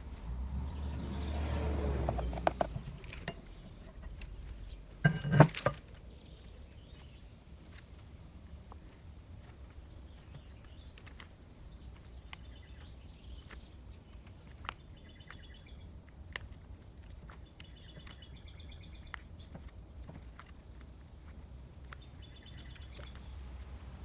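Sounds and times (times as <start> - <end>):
songbirds chirping in trills: 0.0 - 24.0.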